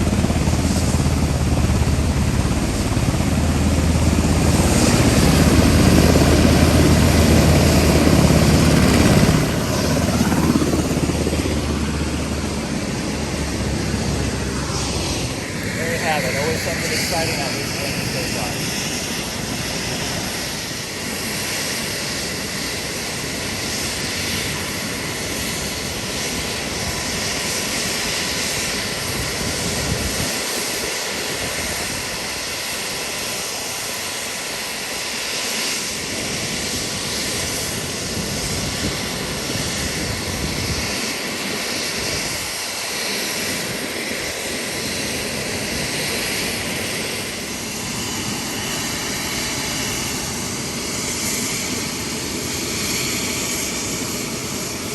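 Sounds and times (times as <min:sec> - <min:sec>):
helicopter turbine and rotor noise: 0:00.0 - 0:54.9.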